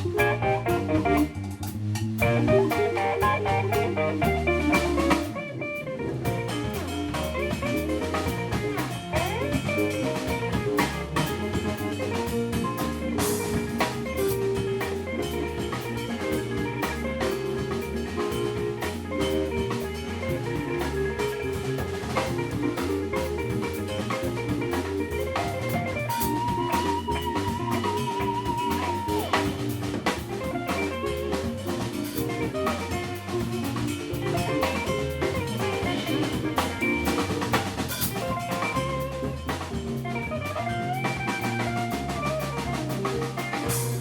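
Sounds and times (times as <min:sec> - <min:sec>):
jazz fusion band playing: 0:00.0 - 0:44.0.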